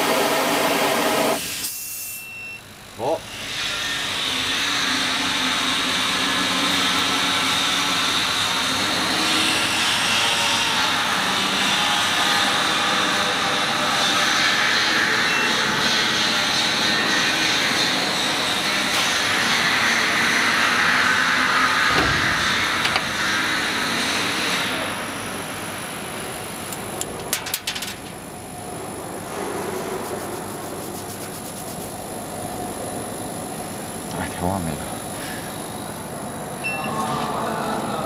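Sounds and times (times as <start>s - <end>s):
exhaust fan rushing: 4.0s - 38.0s.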